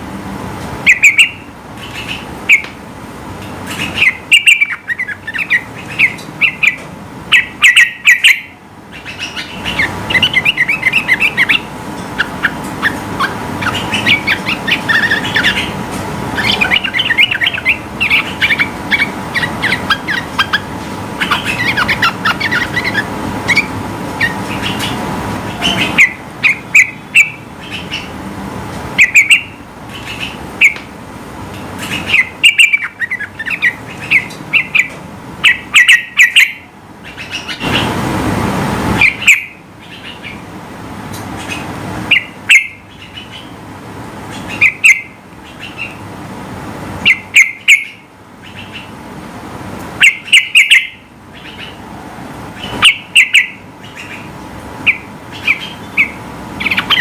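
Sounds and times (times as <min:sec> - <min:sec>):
bird chirping: 0:00.8 - 0:02.8, 0:03.6 - 0:15.8, 0:16.4 - 0:28.2, 0:29.0 - 0:30.9, 0:31.8 - 0:37.9, 0:39.0 - 0:40.5, 0:41.4 - 0:43.6, 0:44.3 - 0:46.0, 0:47.0 - 0:49.0, 0:50.0 - 0:51.8, 0:52.6 - 0:57.0.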